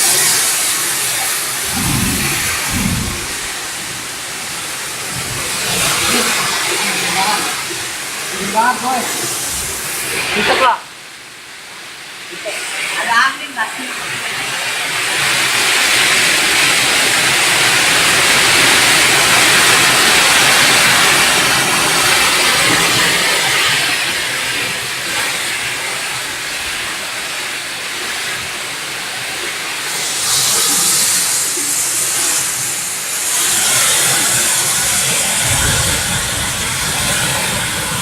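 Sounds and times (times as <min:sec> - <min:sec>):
heavy rain in strong wind: 0:00.0 - 0:38.0.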